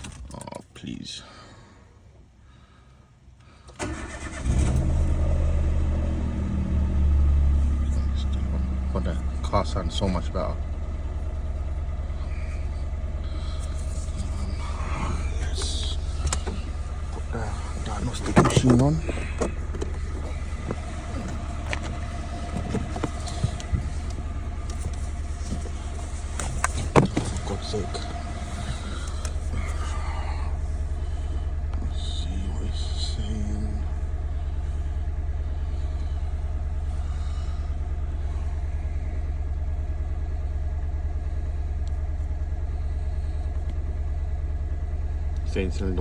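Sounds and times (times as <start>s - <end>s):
car engine starting and idling: 0.0s - 46.0s.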